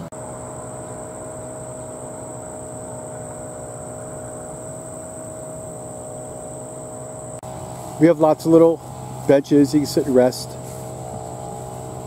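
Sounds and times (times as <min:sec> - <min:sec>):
insects trilling: 0:00.0 - 0:12.0
low steady hum: 0:00.0 - 0:12.0.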